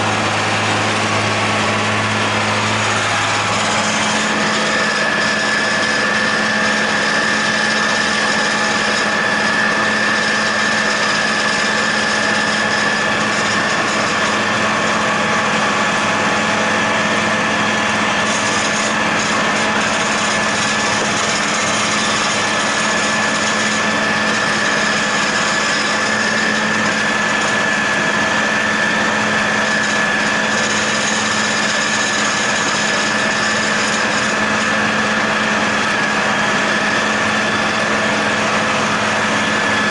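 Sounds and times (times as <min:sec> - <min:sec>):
mower high whine: 0:00.0 - 0:39.9
tractor diesel engine drone: 0:00.0 - 0:39.9.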